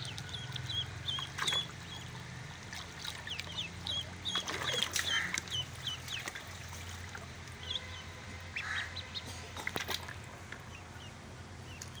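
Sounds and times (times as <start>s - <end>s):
water splashing in a tub: 0.0s - 7.9s, 8.6s - 10.7s
ducklings peeping: 0.0s - 12.0s.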